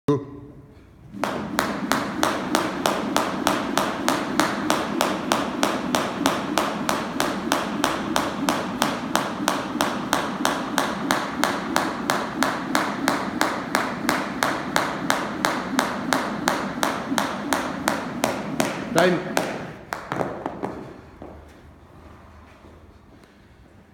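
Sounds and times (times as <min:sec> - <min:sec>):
jump rope slapping floor: 0:01.1 - 0:21.6.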